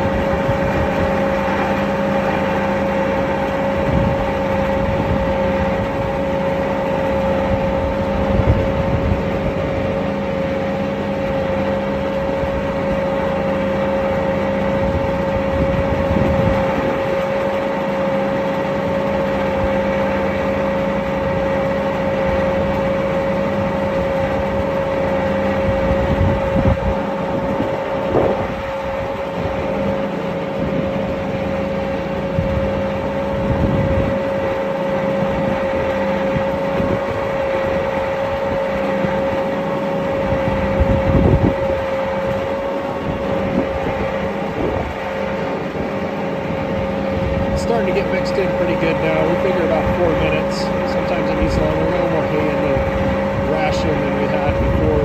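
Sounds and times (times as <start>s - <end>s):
constant machine whine: 0.0s - 55.0s
feed mixer engine drone: 0.0s - 55.0s.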